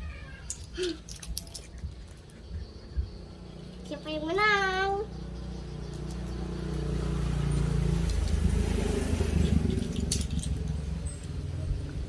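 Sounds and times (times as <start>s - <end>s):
vehicle engine rumble passing: 1.5s - 12.0s.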